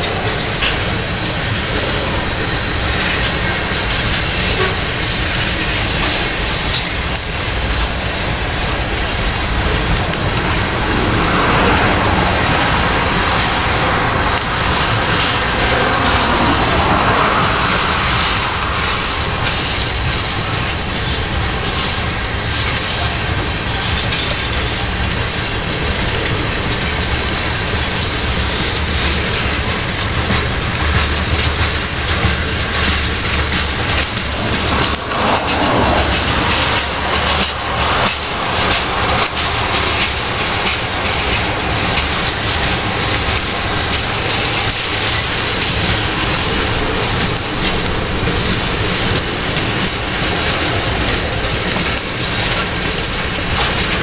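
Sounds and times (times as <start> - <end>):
freight train rumble: 0.0 - 54.0
train wheels clicking on rail joints: 0.0 - 54.0.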